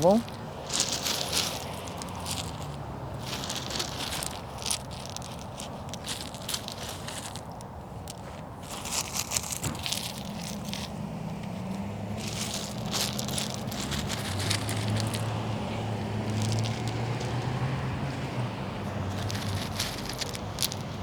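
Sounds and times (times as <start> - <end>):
gravel crunching by hand: 0.0 - 21.0.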